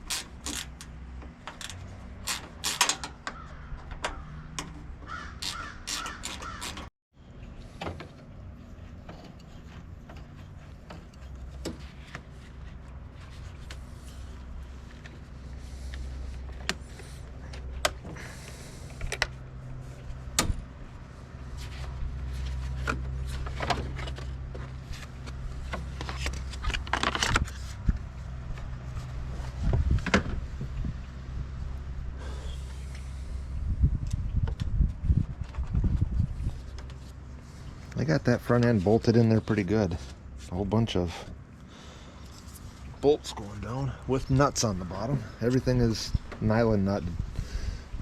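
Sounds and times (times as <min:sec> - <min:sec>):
steady low hum: 0:07.2 - 0:48.0.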